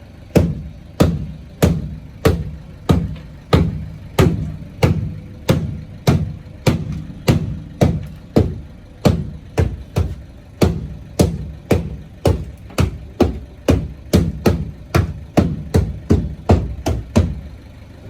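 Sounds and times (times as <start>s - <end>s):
sharp ringing knocks: 0.3s - 17.5s.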